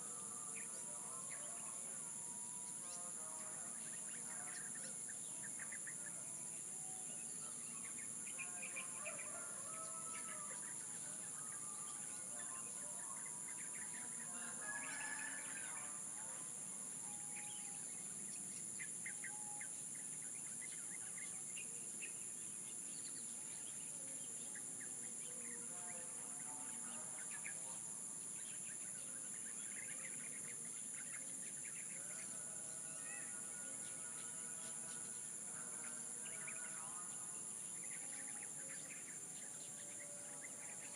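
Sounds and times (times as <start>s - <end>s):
songbirds chirping and calling: 0.0s - 40.9s.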